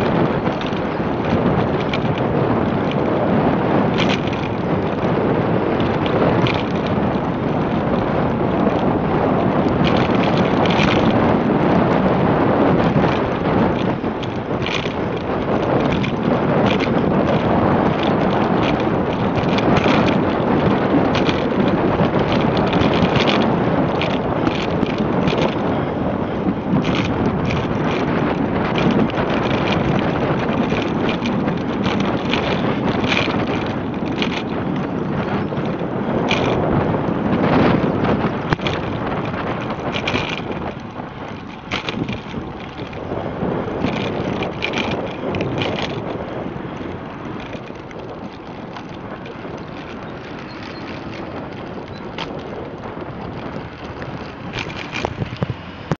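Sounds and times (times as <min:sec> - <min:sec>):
bicycle rattling: 0:00.0 - 0:55.9
tyre noise on asphalt: 0:00.0 - 0:55.9
wind rushing over microphone: 0:00.0 - 0:55.9.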